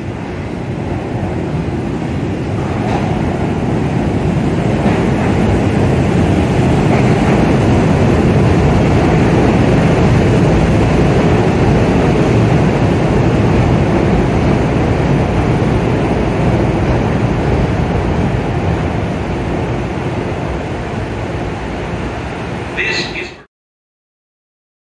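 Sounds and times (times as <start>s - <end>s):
train wheels rumbling on rails: 0.0s - 23.3s.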